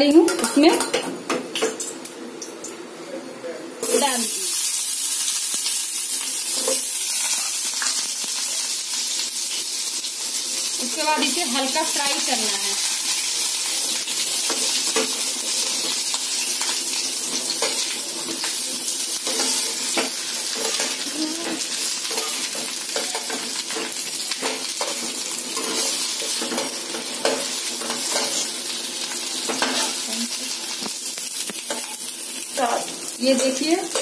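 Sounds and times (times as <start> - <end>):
potatoes sizzling in oil: 3.8 - 34.0.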